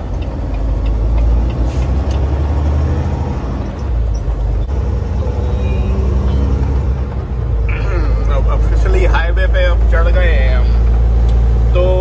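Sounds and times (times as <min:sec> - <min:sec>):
diesel truck engine droning: 0:00.0 - 0:12.0
road noise: 0:00.0 - 0:12.0.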